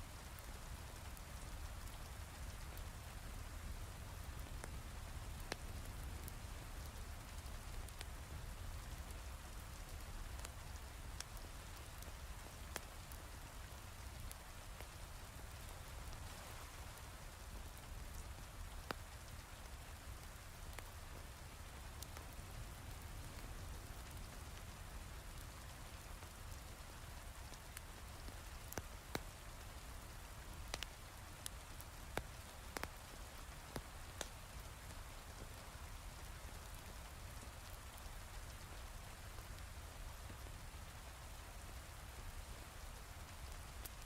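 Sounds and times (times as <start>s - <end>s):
wood fire crackling and popping: 0.3s - 44.0s.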